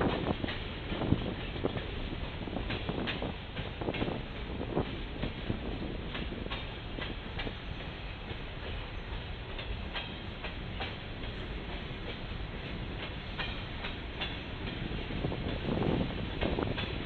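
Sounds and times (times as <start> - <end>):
freight train rumble: 0.0 - 17.0
wheels clicking over rail joints: 0.0 - 17.0.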